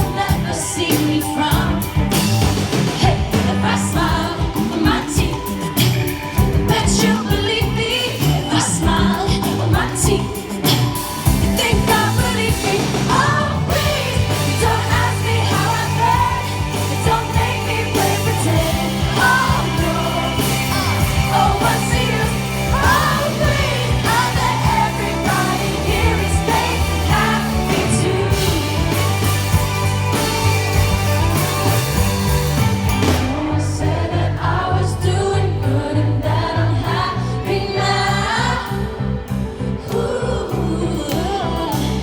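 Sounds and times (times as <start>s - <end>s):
woman singing lead vocal: 0.0s - 29.6s, 33.1s - 42.0s
live rock band playing: 0.0s - 34.6s.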